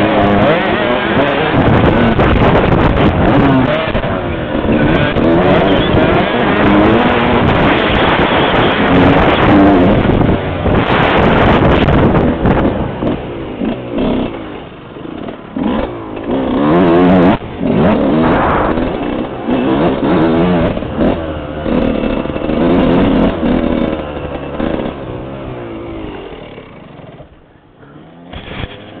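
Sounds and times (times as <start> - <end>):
two-stroke motorcycle engine revving: 0.0 - 29.0.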